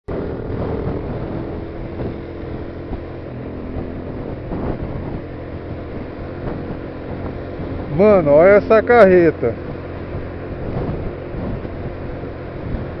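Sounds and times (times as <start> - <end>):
vehicles driving at speed: 0.1 - 13.0.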